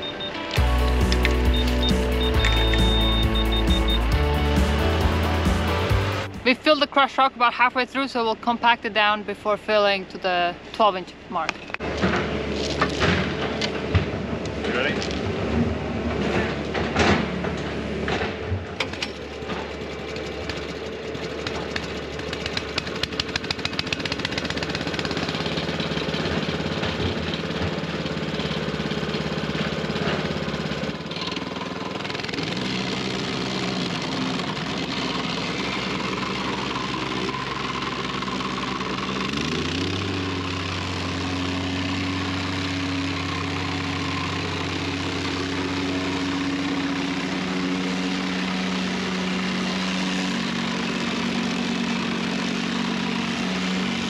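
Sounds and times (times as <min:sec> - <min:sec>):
plate compactor engine running: 0:00.0 - 0:54.0.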